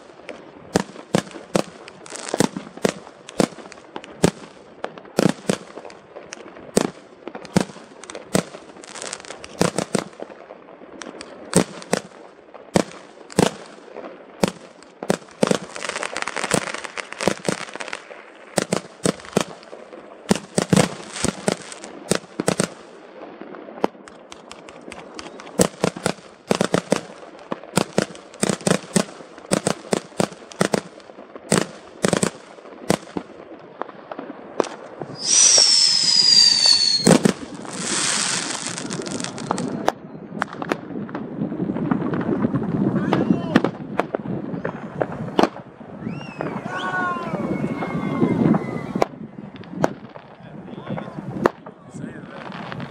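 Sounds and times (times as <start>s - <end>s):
fireworks bangs: 0.0s - 52.9s
fireworks crackling: 0.0s - 52.9s.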